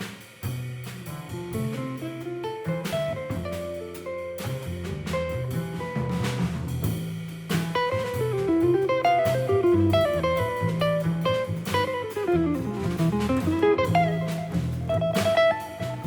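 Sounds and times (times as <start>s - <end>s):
bass: 0.0s - 16.0s
drum kit: 0.0s - 16.0s.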